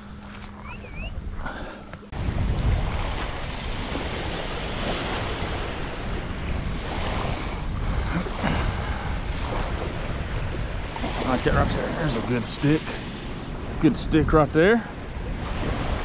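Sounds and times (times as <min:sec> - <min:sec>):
wind buffeting microphone: 0:00.0 - 0:16.0
ocean surf washing ashore: 0:01.5 - 0:16.0.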